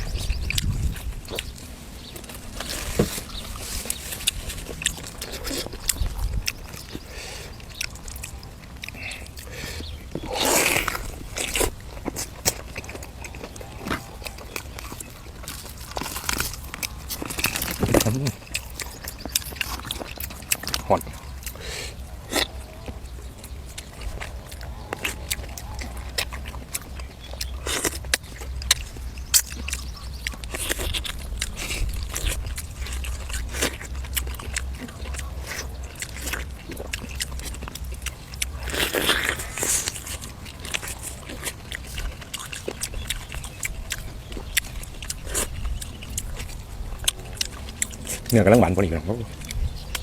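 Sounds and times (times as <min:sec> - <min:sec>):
crunch of food: 0:00.0 - 0:50.0
person chewing food: 0:00.0 - 0:50.0.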